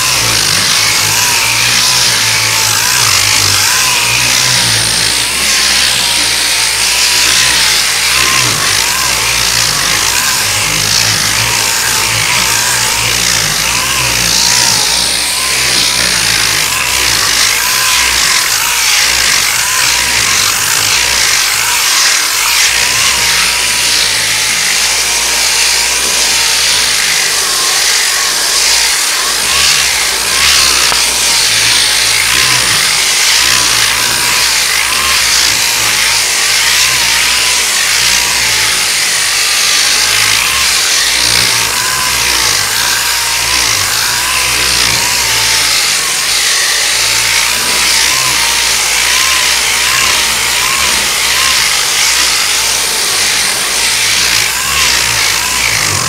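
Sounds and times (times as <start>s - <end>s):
power sander running: 0.0s - 56.0s.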